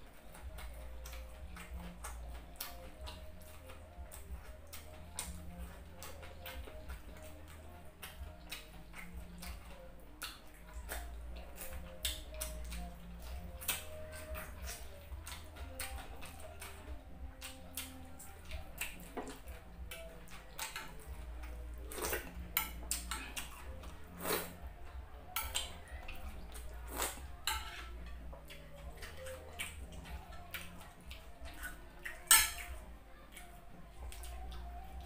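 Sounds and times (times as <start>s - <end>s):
chewing and mouth clicks: 0.0s - 35.0s.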